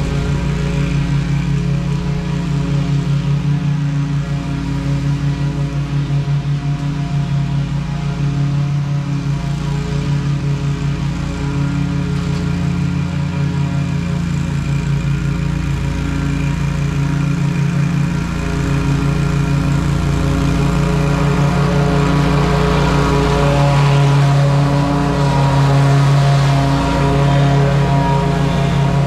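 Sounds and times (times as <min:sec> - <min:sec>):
lawn mower running: 0:00.0 - 0:29.0.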